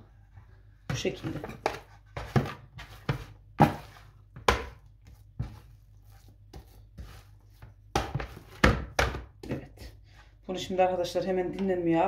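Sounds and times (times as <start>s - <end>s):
hands kneading wet dough: 0.0s - 10.0s.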